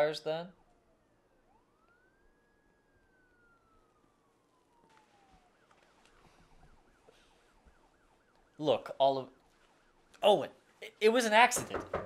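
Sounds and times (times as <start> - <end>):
faint distant siren wail: 0.0 - 11.6.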